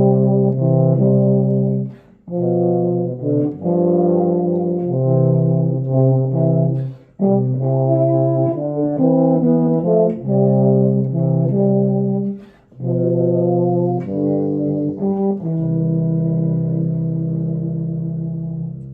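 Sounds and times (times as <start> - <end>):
euphoniums playing a hymn: 0.0 - 18.9.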